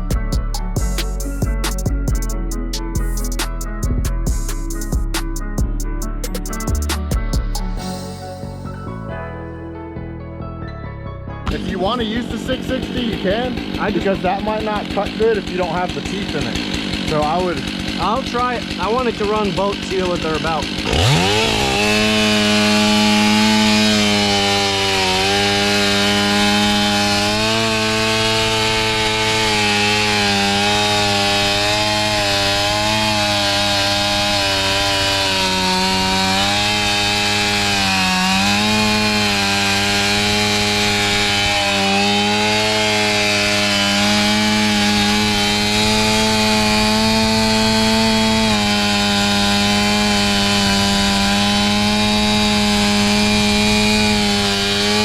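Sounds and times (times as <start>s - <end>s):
chainsaw cutting wood: 0.0s - 9.0s, 11.5s - 55.0s.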